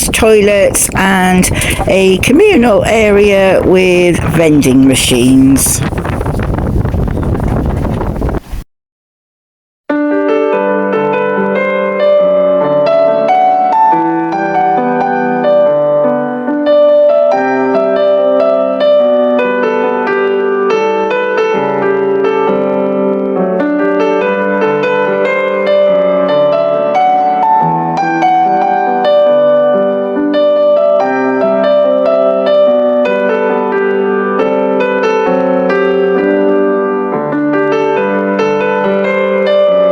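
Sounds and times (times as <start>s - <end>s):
piano music: 0.0s - 5.8s, 9.9s - 39.9s.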